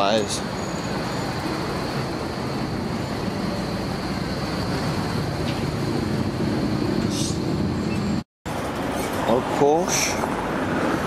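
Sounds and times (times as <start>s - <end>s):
traffic noise: 0.0s - 11.0s.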